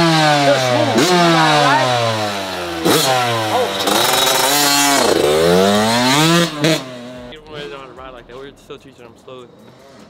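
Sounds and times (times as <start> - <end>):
dirt bike engine revving: 0.0 - 10.0
faint second bike engine revving: 0.0 - 10.0.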